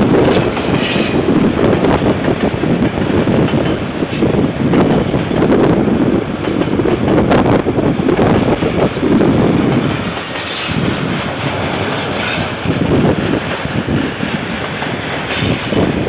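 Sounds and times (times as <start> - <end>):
train wheels rumbling on rail: 0.0 - 16.0
wind buffeting microphone: 0.0 - 16.0.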